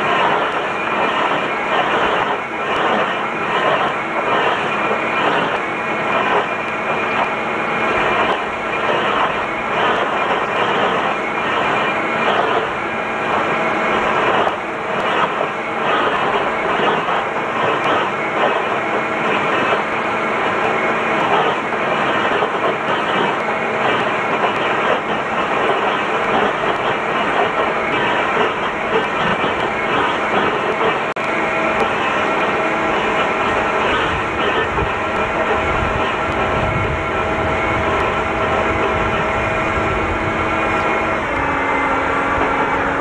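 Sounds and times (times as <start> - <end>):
stump grinder chipping wood: 0.0 - 37.0
tractor engine running: 0.0 - 43.0.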